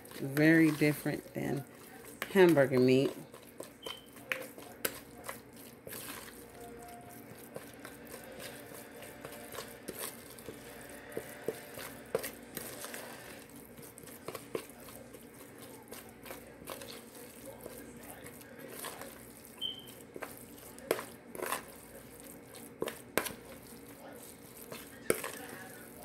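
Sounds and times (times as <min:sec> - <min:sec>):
spatula scraping plastic bowl: 0:00.0 - 0:26.0
wet squishing of ground meat: 0:00.0 - 0:26.0.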